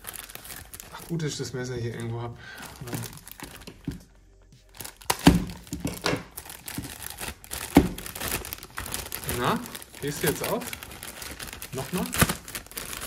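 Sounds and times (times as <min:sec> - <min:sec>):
plastic bag crinkling and tearing: 0:00.0 - 0:04.0, 0:04.7 - 0:13.0.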